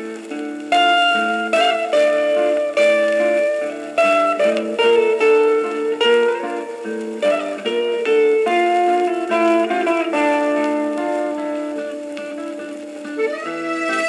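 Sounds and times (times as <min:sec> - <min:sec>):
electric guitar instrumental: 0:00.0 - 0:14.0.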